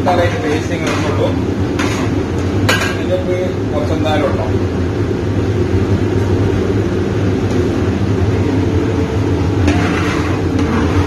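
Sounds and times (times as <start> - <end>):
kitchen equipment drone: 0.0 - 11.0.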